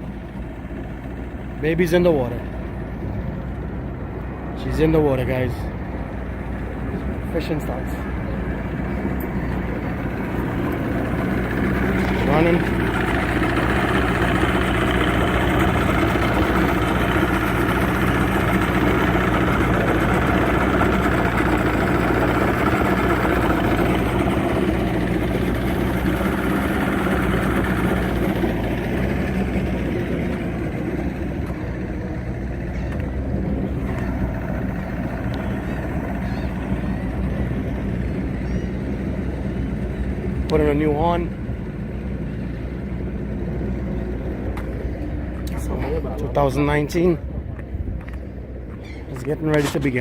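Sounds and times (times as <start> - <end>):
boat motor humming: 0.0 - 50.0.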